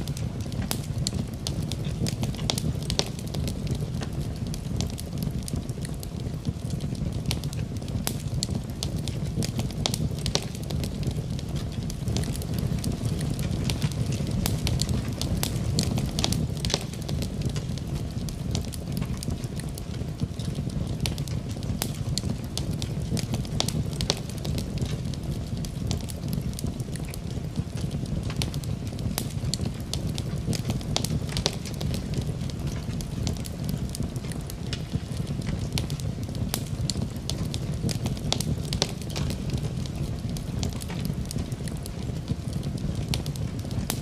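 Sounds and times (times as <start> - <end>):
fire crackles and pops: 0.0 - 44.0
fire low rumble: 0.0 - 44.0.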